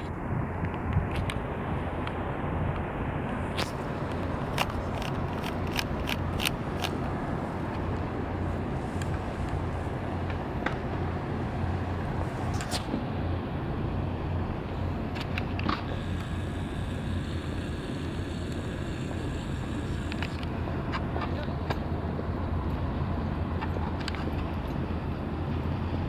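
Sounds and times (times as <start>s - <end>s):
distant engines rumbling: 0.0s - 26.0s.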